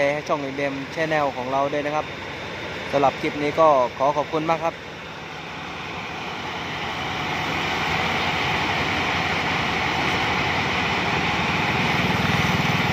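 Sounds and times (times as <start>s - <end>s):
combine harvester running: 0.0s - 12.9s.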